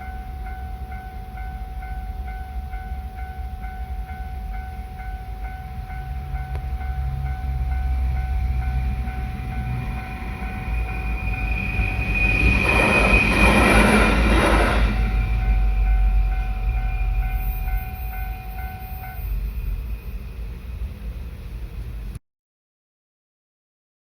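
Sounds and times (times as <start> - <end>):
level crossing alarm dinging: 0.0 - 19.8
train wheels on track: 0.0 - 22.2.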